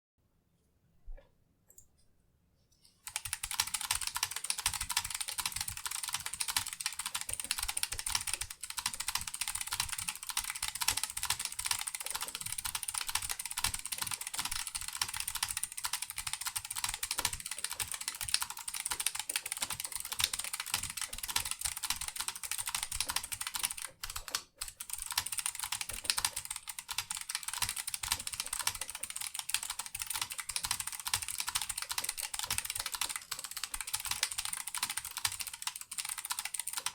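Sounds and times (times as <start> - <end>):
mechanical keyboard typing: 3.1 - 36.9.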